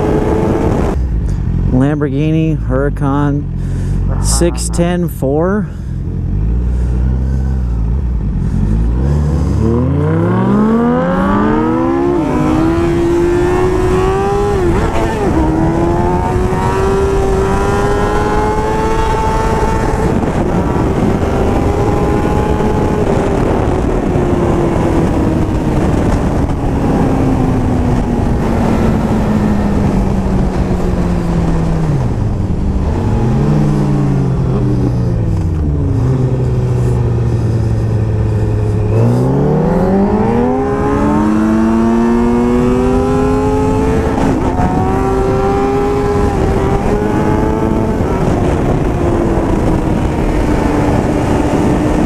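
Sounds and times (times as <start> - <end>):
motorcycle engine accelerating: 0.0 - 52.0
wind rush: 7.9 - 52.0.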